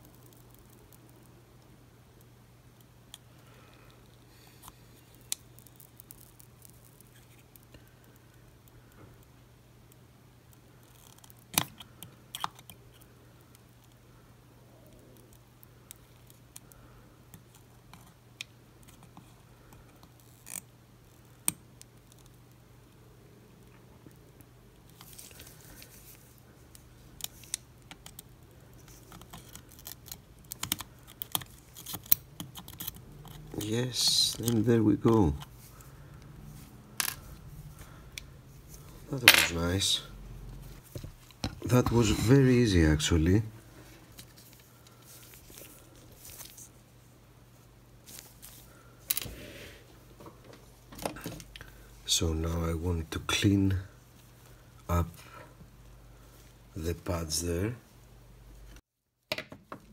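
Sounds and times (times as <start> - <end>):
low steady hum: 0.0 - 58.8.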